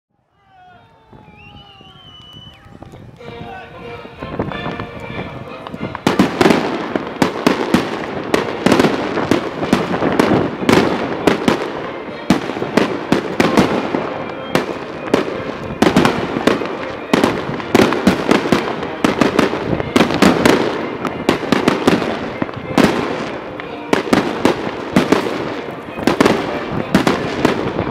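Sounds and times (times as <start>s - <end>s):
fireworks bangs and crackles: 4.2s - 27.9s.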